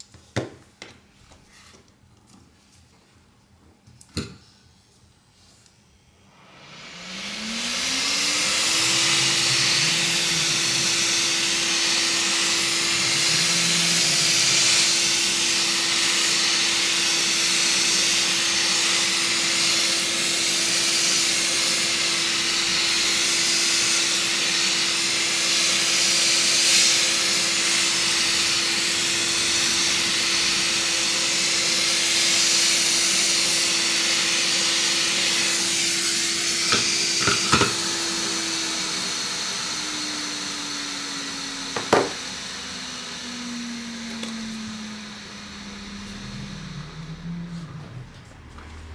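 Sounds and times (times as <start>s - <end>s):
hot-air gun fan motor: 5.6s - 48.2s.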